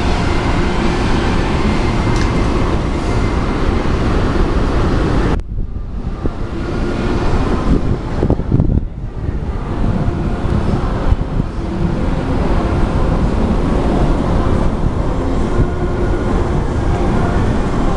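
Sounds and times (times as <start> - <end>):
ship low rumble: 0.0 - 17.9
wind buffeting microphone: 0.0 - 17.9.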